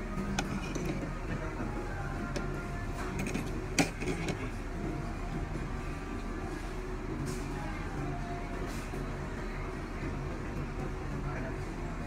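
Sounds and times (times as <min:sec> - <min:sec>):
indistinct background chatter: 0:00.0 - 0:12.0
steady low hum: 0:00.0 - 0:12.0.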